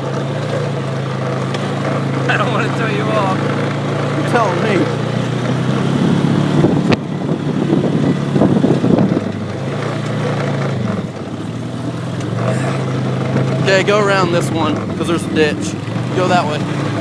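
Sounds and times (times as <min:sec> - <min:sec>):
four-wheeler engine running: 0:00.0 - 0:17.0
rattling rumble over bumps: 0:00.0 - 0:17.0.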